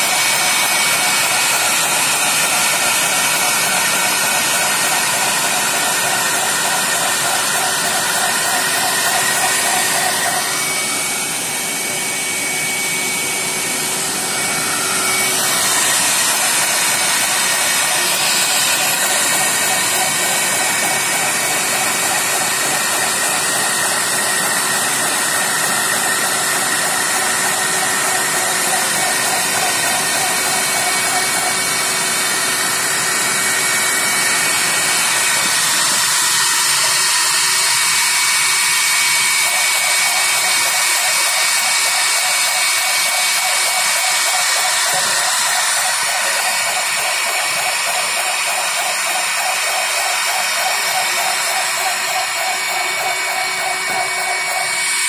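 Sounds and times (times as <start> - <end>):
drilling machine whirring: 0.0 - 55.0.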